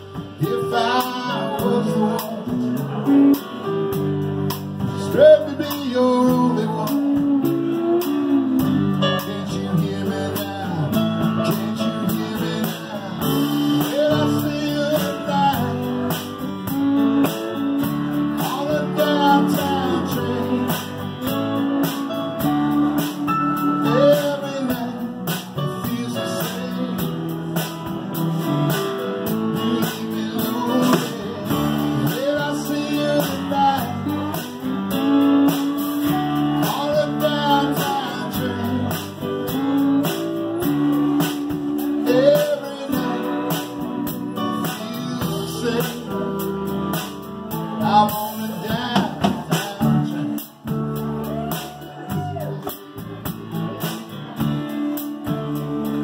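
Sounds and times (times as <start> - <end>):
acoustic guitar strumming: 0.0 - 56.0
bass: 0.0 - 56.0
bending lead guitar line: 0.0 - 56.0
drums with cymbals: 0.0 - 56.0
keyboard: 0.0 - 56.0.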